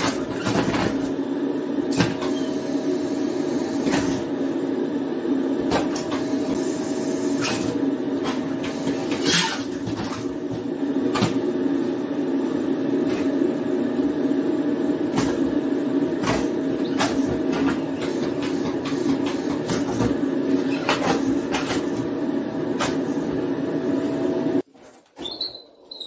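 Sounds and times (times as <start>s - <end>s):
vacuum cleaner running: 0.0s - 24.7s.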